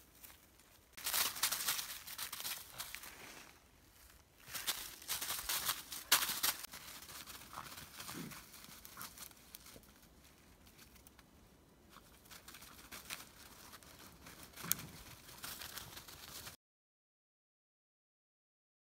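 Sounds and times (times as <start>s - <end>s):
paws crunching through dry leaves: 0.0s - 11.2s, 11.9s - 16.6s.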